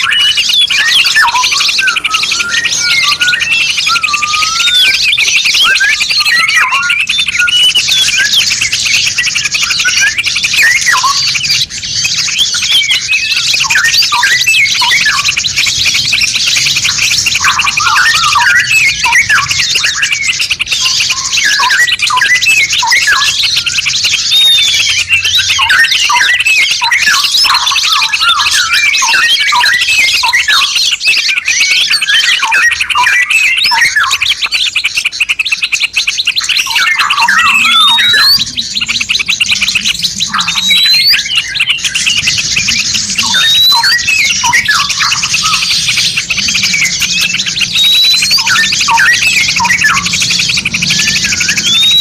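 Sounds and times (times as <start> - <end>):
chorus of songbirds: 0.0 - 52.0.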